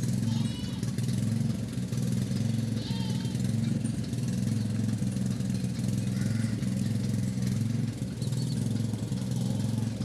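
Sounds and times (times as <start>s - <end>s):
engine low humming: 0.0s - 10.0s.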